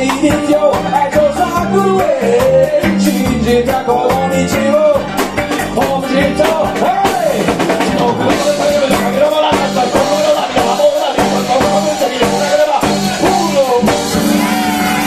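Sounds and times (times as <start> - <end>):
man singing into a microphone: 0.0 - 15.0
reggae band playing: 0.0 - 15.0.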